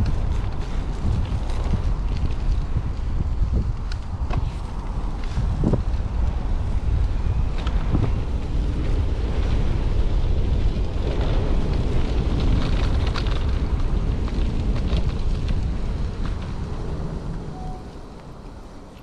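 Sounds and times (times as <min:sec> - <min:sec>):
bike clicks and rattles: 0:00.0 - 0:17.4
wind buffeting microphone: 0:00.0 - 0:19.0.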